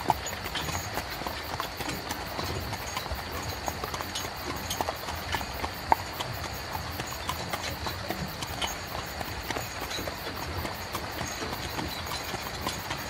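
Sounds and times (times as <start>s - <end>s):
carriage wheels rumbling: 0.0s - 13.0s
horse hooves clip-clopping on road: 0.0s - 13.0s.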